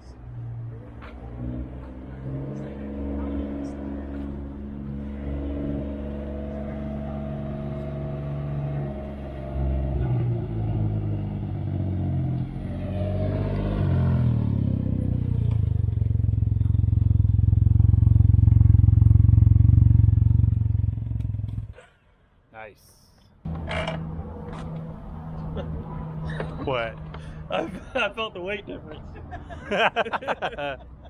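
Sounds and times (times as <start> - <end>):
three-wheeler engine and exhaust: 0.0 - 22.1, 23.5 - 30.0.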